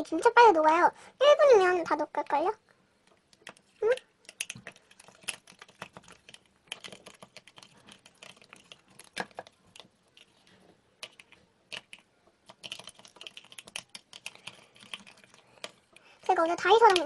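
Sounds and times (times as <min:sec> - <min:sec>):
stirring gel in container: 0:03.2 - 0:17.0.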